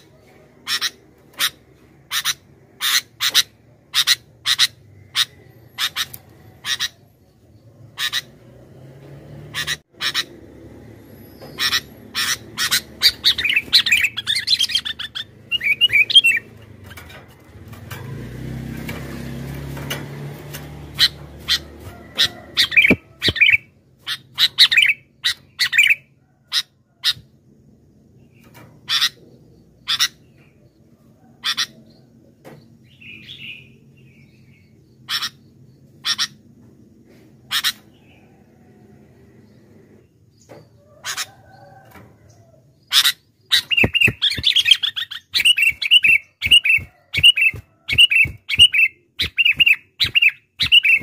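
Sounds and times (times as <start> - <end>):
bird chirping: 0.0 - 36.9, 37.5 - 51.0.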